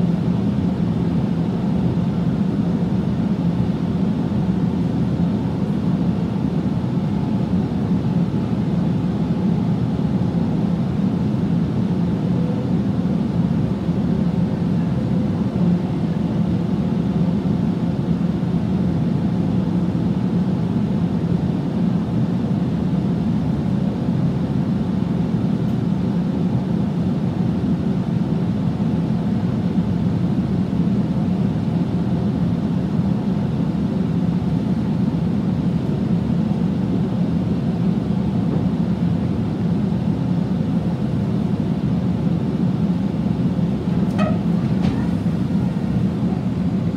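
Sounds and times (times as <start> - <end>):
train carriage rumble: 0.0 - 46.9.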